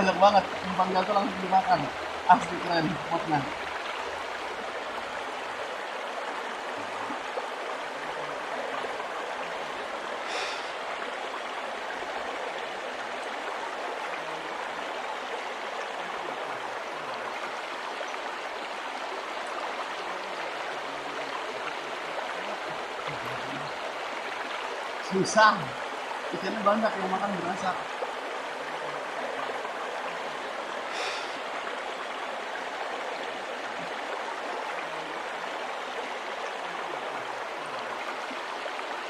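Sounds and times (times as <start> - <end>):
stream water rushing and gurgling: 0.0 - 39.0.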